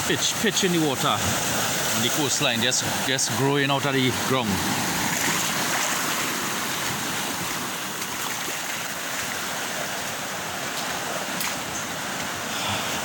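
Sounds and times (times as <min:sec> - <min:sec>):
waves washing over rocks: 0:00.0 - 0:13.0.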